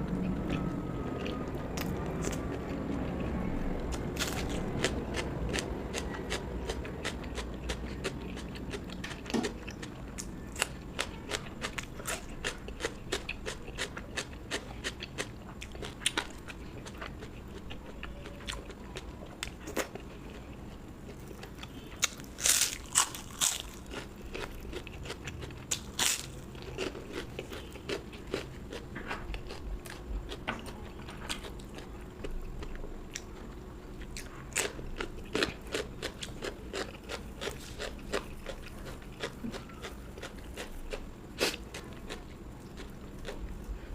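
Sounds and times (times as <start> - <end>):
crunching of food: 0.1 - 43.9.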